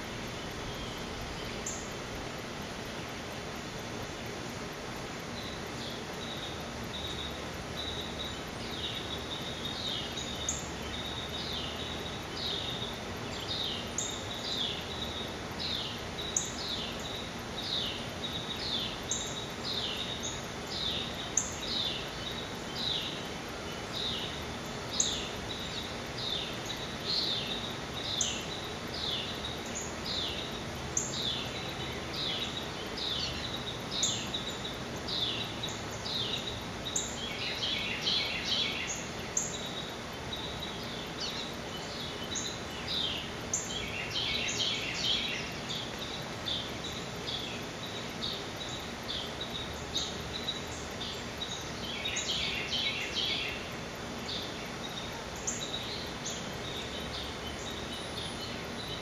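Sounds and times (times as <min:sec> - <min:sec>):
faint outdoor hum: 0:00.0 - 0:59.0.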